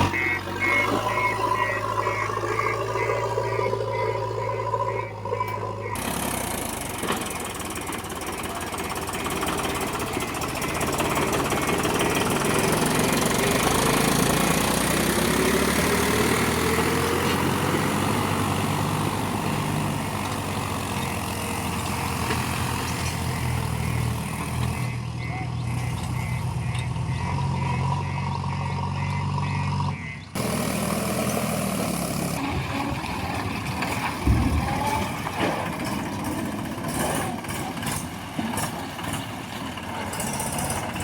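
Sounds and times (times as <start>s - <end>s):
diesel engine knocking rattle: 0.0s - 41.0s.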